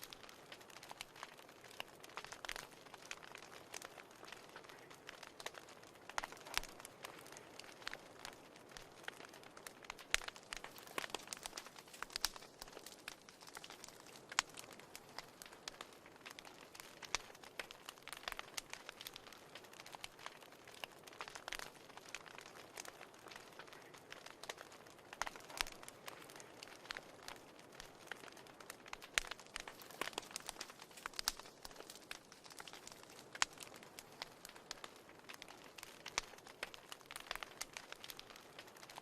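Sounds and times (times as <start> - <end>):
soft fire hiss: 0.0 - 39.0
wood fire crackling: 0.0 - 39.0.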